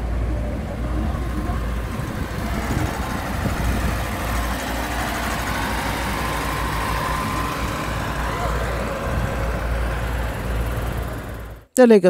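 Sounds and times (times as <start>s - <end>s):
diesel engine running: 0.0s - 11.7s.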